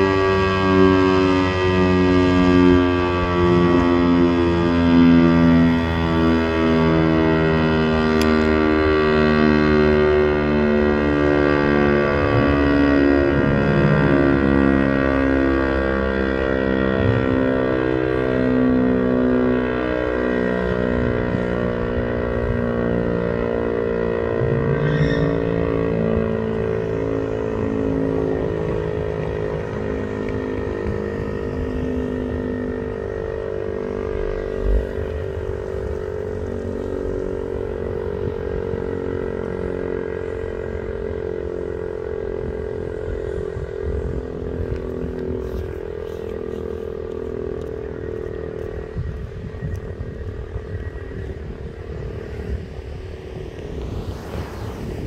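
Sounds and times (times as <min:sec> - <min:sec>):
tornado siren winding down: 0:00.0 - 0:55.0.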